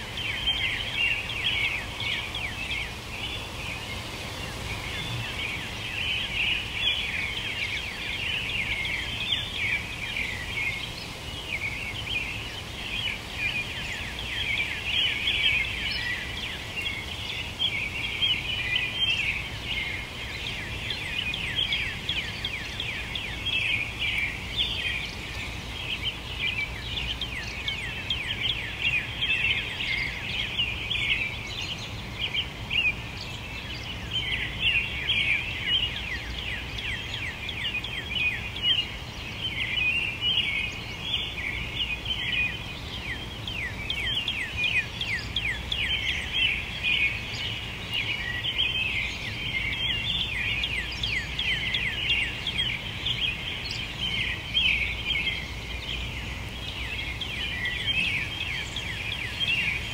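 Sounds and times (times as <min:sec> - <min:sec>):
songbirds singing and chirping: 0:00.0 - 0:59.9.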